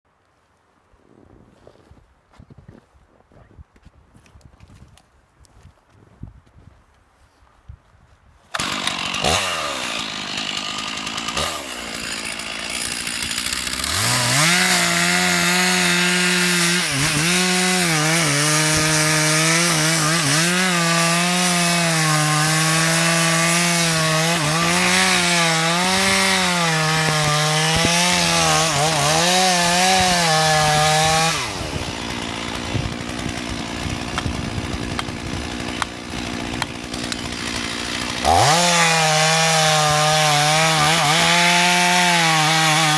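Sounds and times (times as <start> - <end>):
chainsaw cutting wood: 8.5 - 42.9.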